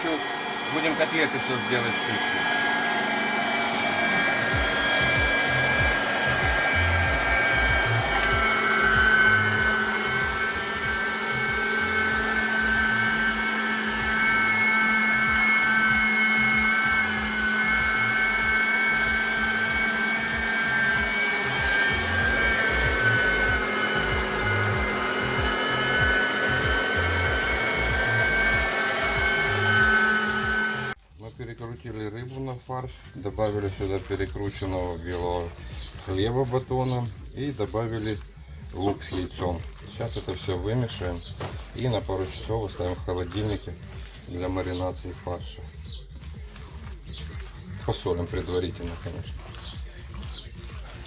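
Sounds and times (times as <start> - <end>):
electric meat grinder whirring: 0.0 - 31.0, 33.0 - 51.0.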